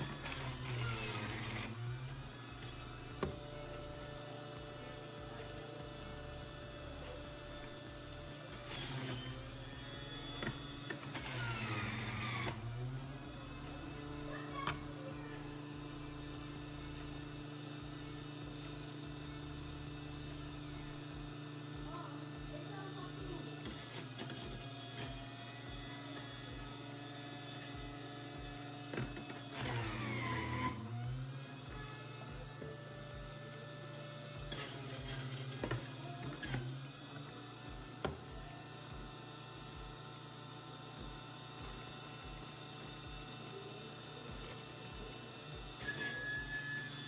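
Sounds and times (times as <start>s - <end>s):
juicer motor humming: 0.0s - 47.0s
produce shredding in juicer: 0.0s - 47.0s.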